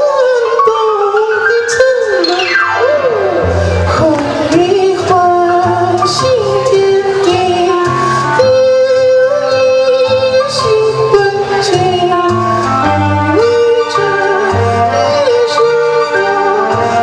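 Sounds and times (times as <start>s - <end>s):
backing track with bass line: 0.0s - 17.0s
high female-style singing: 0.0s - 17.0s.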